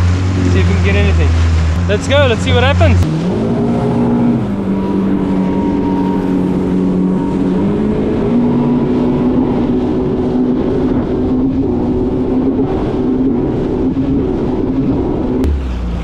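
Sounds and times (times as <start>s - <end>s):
personal watercraft engine running: 0.0s - 16.0s.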